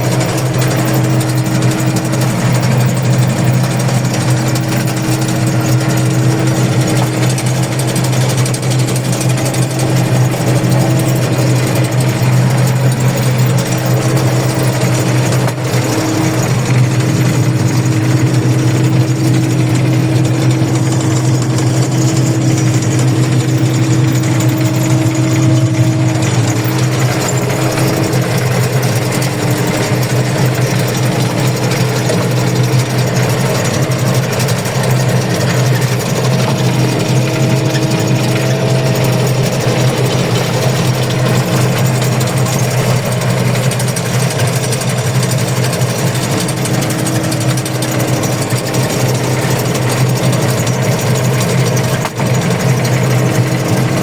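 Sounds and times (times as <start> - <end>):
machinery engine humming: 0.0 - 54.0.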